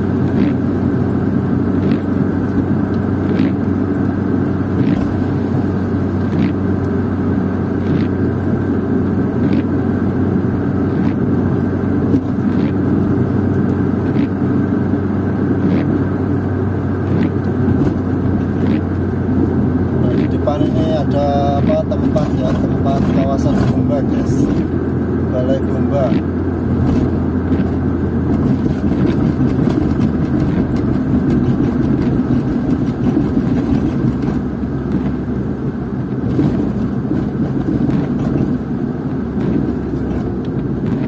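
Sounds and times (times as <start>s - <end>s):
car engine and tyre rumble: 0.0s - 41.0s
windscreen wipers sweeping: 0.0s - 41.0s.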